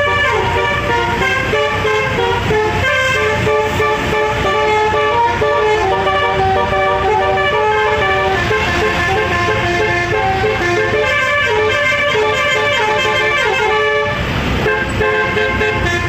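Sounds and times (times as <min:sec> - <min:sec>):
bus engine rumble: 0:00.0 - 0:16.0
musical bus horn tune: 0:00.0 - 0:16.0.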